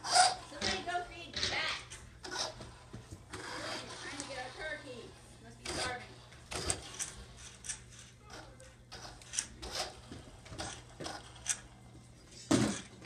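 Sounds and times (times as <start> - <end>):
toy car motor whirring: 0.0 - 11.8
tyres rolling on wooden floor: 0.0 - 13.0.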